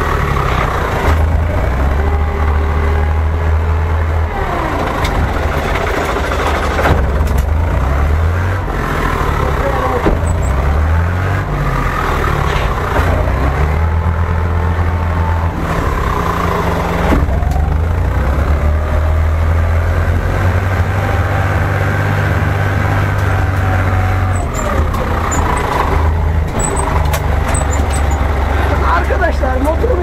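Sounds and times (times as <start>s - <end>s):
tractor engine droning: 0.0s - 30.0s.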